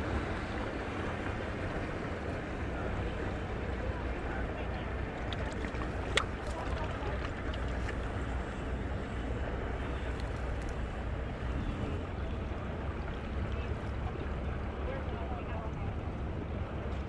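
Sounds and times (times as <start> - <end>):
harbour noise: 0.0 - 17.0
low rumble of wind: 0.0 - 17.0.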